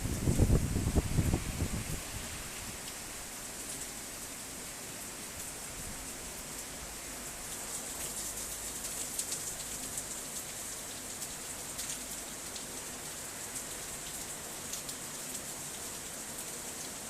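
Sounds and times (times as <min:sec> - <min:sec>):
heavy rain and sleet: 0:00.0 - 0:17.0.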